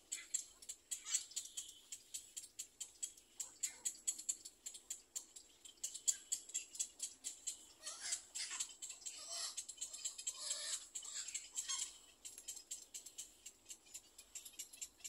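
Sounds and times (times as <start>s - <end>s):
egret chicks ticking calls: 0.0s - 15.0s.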